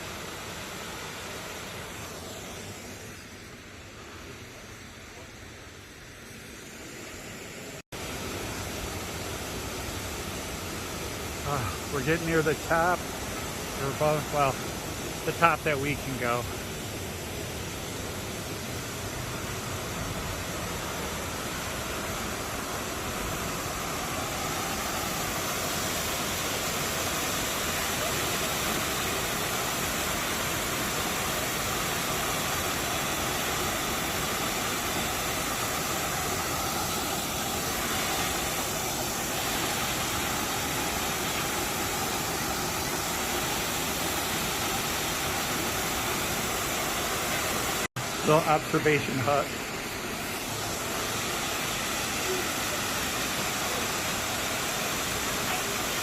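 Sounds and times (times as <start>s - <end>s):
waterfall rushing: 6.8s - 56.0s.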